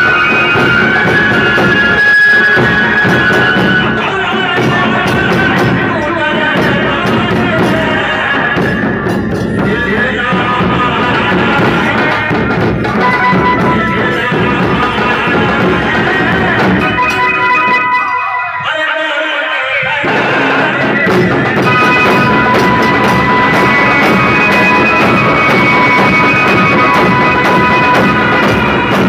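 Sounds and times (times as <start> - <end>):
barrel drums beaten with sticks: 0.0 - 17.8, 20.0 - 29.0.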